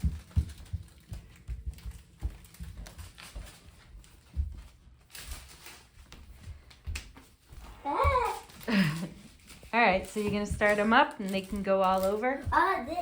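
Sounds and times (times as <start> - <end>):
faint handling noise: 0.0 - 12.4
footsteps on floor: 0.0 - 13.0.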